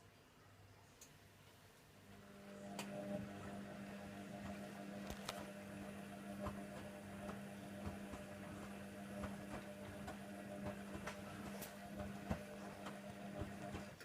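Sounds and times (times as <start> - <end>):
washer dryer motor hum: 2.0 - 14.0.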